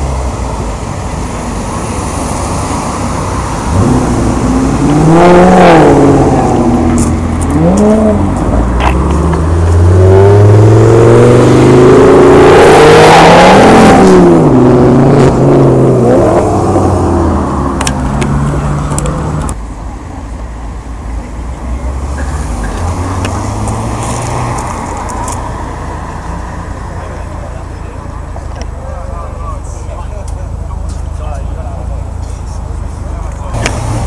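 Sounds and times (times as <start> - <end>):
car engine revving: 0.0 - 19.6, 21.7 - 34.0.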